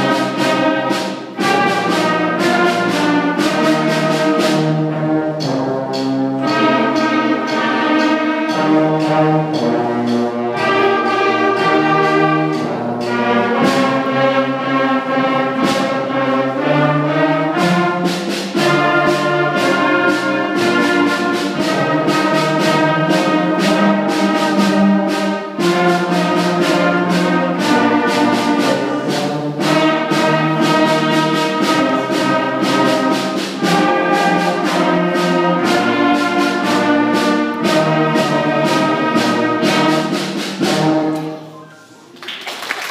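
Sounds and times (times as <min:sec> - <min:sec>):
concert band playing: 0:00.0 - 0:42.8.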